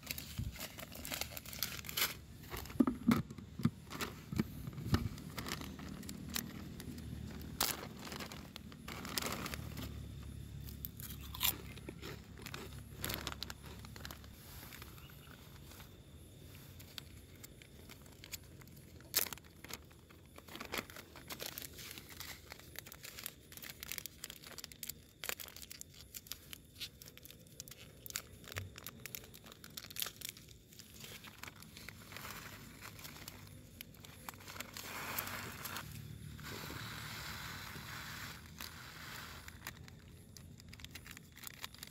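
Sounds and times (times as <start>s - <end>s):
plastic bags crinkling: 0.0s - 10.2s, 11.0s - 15.5s, 16.6s - 41.9s.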